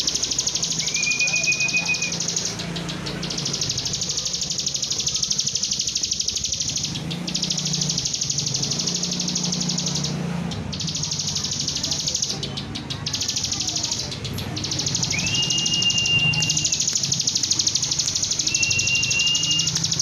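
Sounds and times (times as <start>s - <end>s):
bird trilling song: 0.0s - 20.0s.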